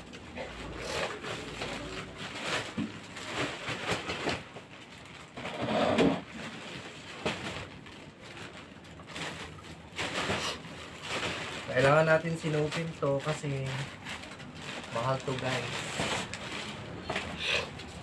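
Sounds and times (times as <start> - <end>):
plastic bag rustling and crinkling: 0.0 - 18.0.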